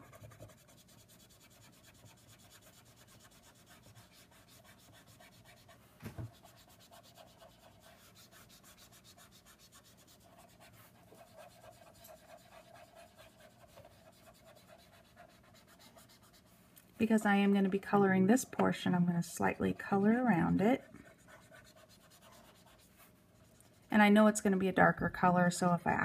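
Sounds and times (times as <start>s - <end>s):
marker nib rubbing on paper: 0.0s - 23.8s.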